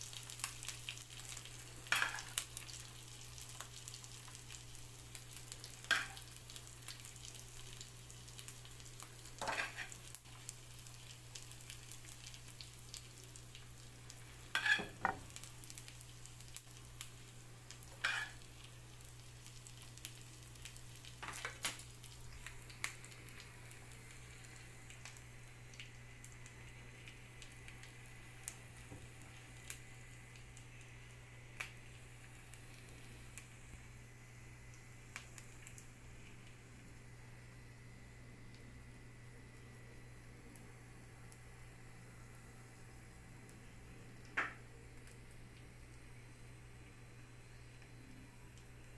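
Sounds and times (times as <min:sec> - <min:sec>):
food sizzling: 0:00.0 - 0:48.9.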